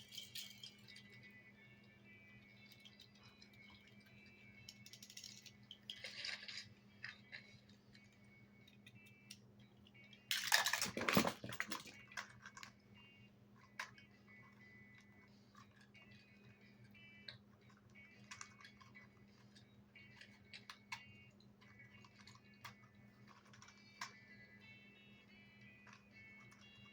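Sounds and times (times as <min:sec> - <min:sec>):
toy clatter and rustle: 0:00.0 - 0:26.9
toy vehicles clicking and rattling: 0:00.0 - 0:26.9.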